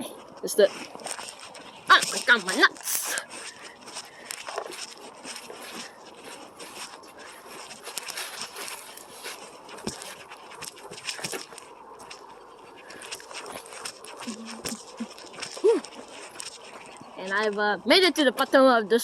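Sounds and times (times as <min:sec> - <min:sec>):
footsteps crunching on forest floor: 0:00.0 - 0:17.7.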